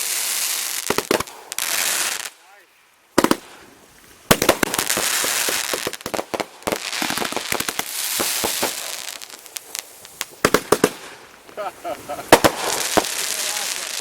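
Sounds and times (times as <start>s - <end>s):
firework bangs and crackling: 0.0s - 2.5s, 3.1s - 14.0s.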